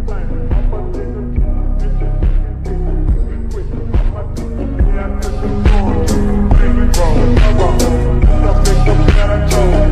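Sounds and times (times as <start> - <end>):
music with deep bass: 0.0 - 9.9.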